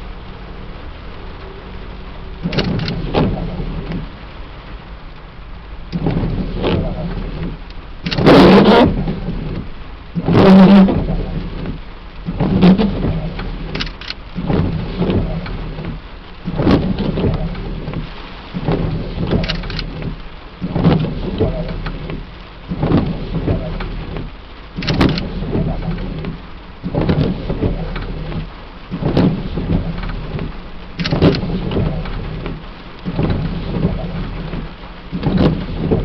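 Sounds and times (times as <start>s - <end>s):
steady rain: 0.0s - 36.0s
thunder rumbling: 5.6s - 36.0s
sharp thumps: 5.9s - 36.0s.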